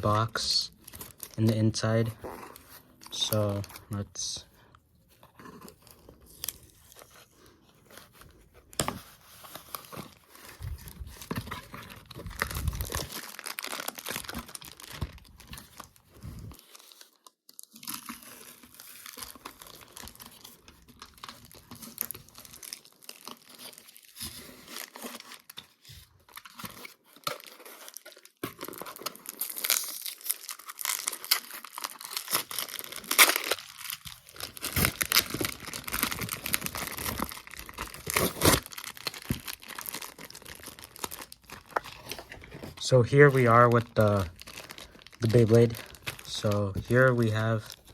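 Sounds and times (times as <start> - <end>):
cardboard and plastic tearing: 0.0 - 4.0, 5.1 - 47.9.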